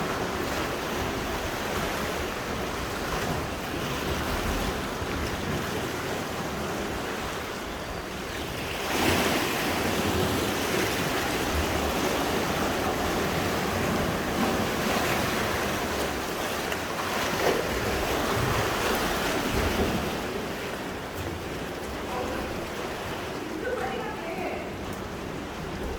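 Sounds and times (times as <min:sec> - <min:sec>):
sea waves washing on shore: 0:00.0 - 0:25.9.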